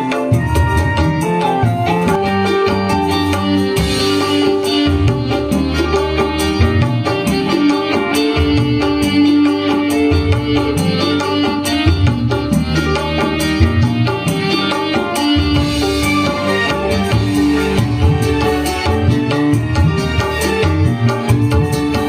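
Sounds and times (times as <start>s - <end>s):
band playing dance music: 0.0s - 22.0s
hand drum rhythm: 0.0s - 22.0s
held melodic line: 0.0s - 22.0s.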